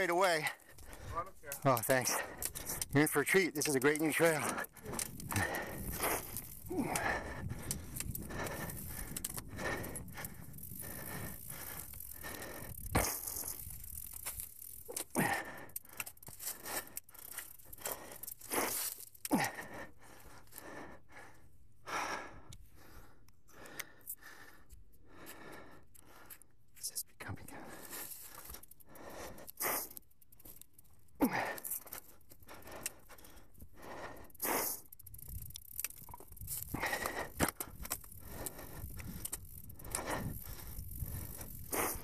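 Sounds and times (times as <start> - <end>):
person breathing: 0.4 - 2.9, 4.0 - 14.1, 15.0 - 26.7, 27.4 - 30.5, 31.2 - 42.0.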